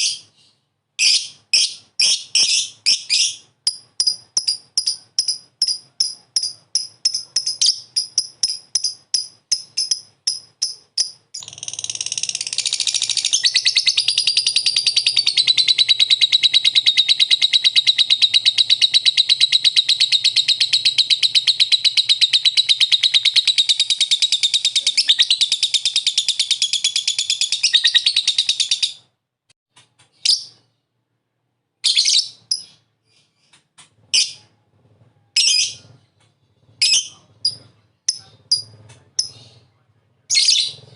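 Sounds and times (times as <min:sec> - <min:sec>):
lovebird chirping and chattering: 0:00.0 - 0:29.1, 0:30.1 - 0:30.7, 0:31.8 - 0:34.5, 0:35.4 - 0:39.7, 0:40.3 - 0:40.9.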